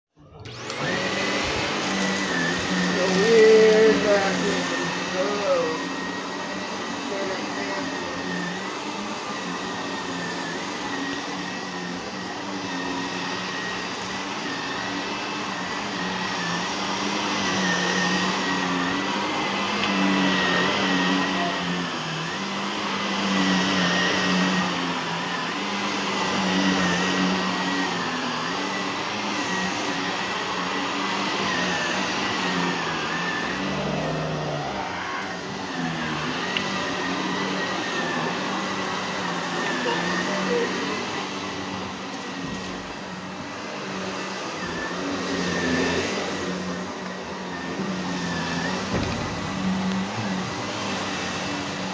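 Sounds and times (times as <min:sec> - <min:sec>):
vacuum cleaner running: 0:00.1 - 0:51.9.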